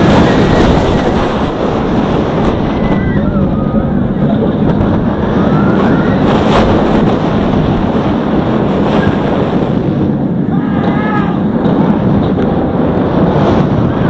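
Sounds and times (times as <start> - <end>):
roller coaster rumbling roar: 0.0 - 14.0
wind buffeting microphone: 0.0 - 14.0.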